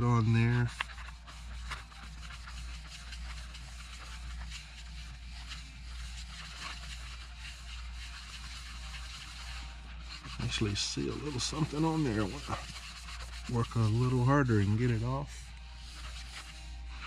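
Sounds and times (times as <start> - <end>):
steady low hum: 0.0 - 17.0
foam scrubbing plastic disc: 0.1 - 17.0.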